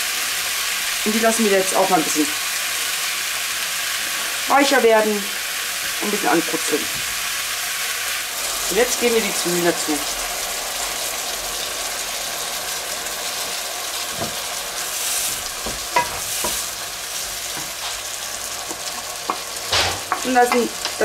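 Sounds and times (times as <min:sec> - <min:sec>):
vegetables sizzling in a wok: 0:00.0 - 0:21.0.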